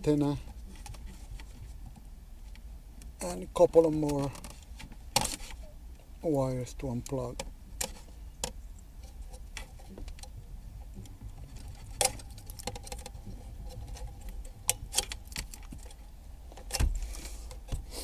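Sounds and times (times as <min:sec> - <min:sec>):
clicks and rattles of car stereo: 0:00.2 - 0:05.6, 0:06.8 - 0:17.9.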